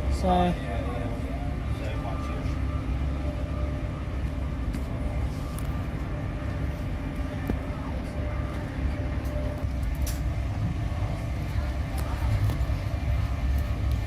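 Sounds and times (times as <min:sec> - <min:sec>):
faint steady whine: 0:00.0 - 0:14.0
train rumble inside carriage: 0:00.0 - 0:14.0.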